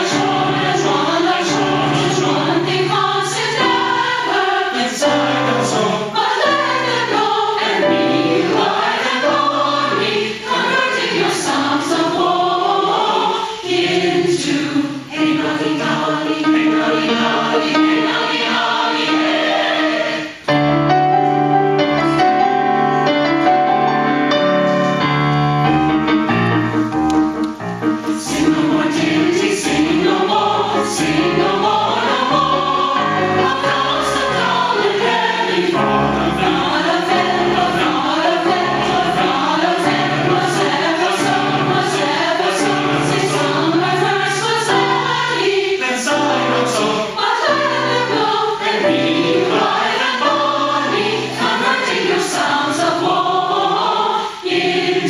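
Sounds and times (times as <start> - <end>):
mixed choir singing: 0.0 - 24.2, 28.1 - 55.0.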